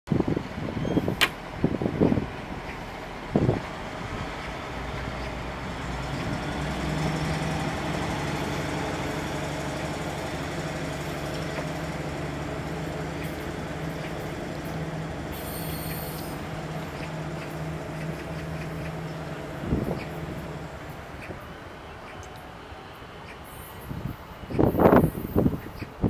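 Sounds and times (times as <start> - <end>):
diesel railcar engine drone: 0.1 - 26.0.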